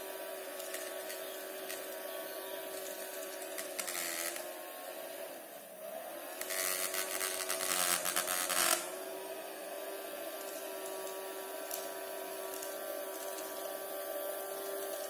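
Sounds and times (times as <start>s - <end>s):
small electric motor whine: 0.0s - 15.0s.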